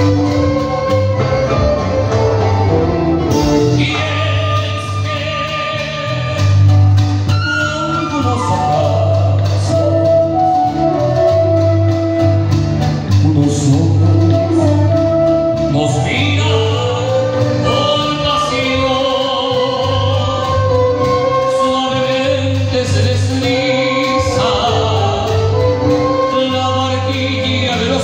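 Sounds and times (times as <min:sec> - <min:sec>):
person singing: 0:00.0 - 0:06.7, 0:07.3 - 0:11.8, 0:13.1 - 0:28.0
acoustic guitar: 0:00.0 - 0:28.0
electric bass: 0:00.0 - 0:28.0
flute: 0:00.0 - 0:28.0
violin: 0:00.0 - 0:28.0.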